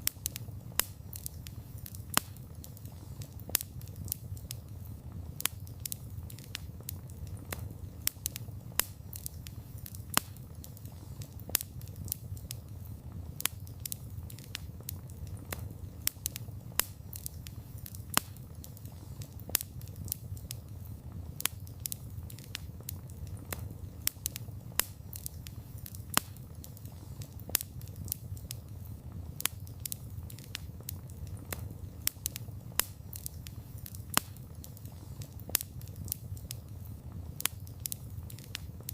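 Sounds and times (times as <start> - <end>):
burning wood crackling and popping: 0.0 - 38.9
campfire flames rumbling: 0.0 - 38.9.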